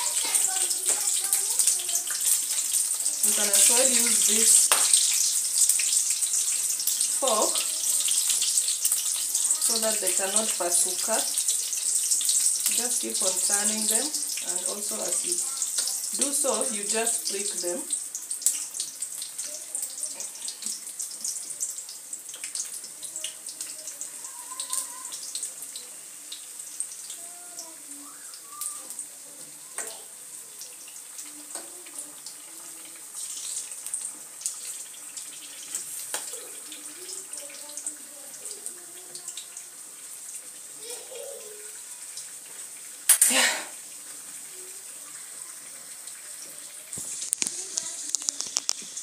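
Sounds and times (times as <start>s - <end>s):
oil popping and crackling: 0.0s - 49.0s
sausages sizzling in oil: 0.0s - 49.0s.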